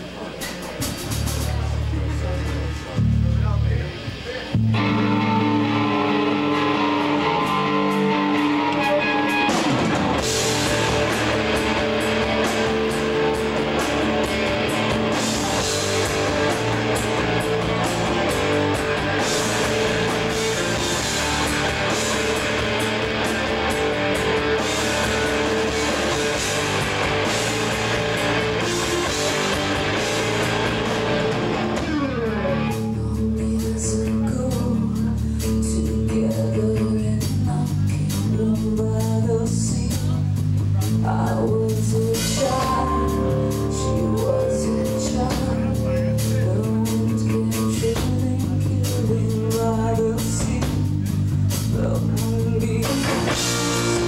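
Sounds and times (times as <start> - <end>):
bass guitar: 0.0 - 54.0
drums and cymbals: 0.0 - 54.0
electric guitars: 0.0 - 54.0.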